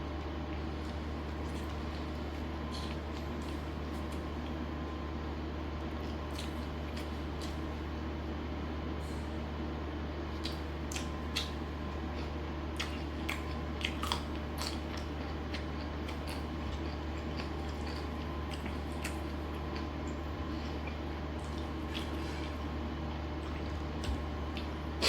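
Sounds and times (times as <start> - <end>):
steady low hum: 0.0 - 25.0
person chewing crunchy food: 0.5 - 4.6, 6.0 - 7.8, 10.4 - 25.0.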